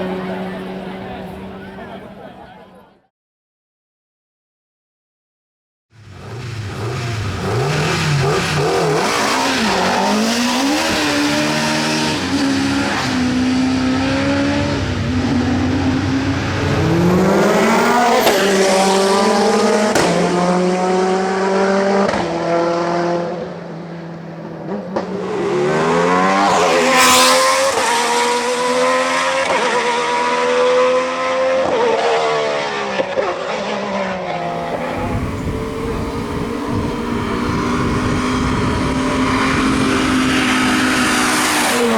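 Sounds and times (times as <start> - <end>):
racing car engines revving: 0.0 - 2.9, 6.0 - 41.9.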